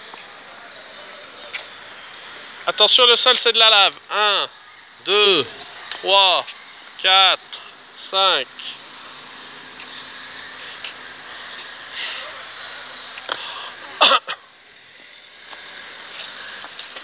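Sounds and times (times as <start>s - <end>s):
street traffic hum: 0.0s - 17.0s.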